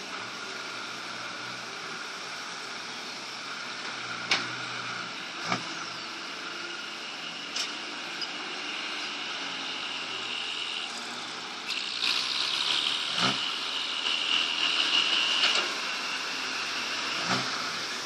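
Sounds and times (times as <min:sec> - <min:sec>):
excavator engine whining: 0:00.0 - 0:18.0.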